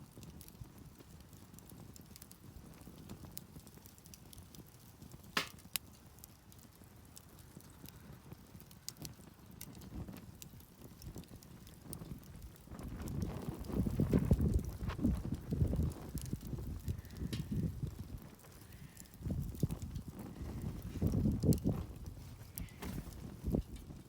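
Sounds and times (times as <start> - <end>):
fire popping: 0.0 - 24.0
wood campfire crackling: 0.0 - 24.0.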